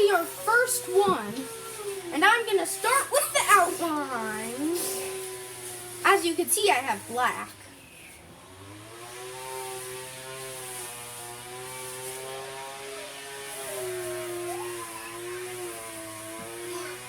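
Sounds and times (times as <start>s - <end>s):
electric motor whirring hum: 0.0s - 17.0s.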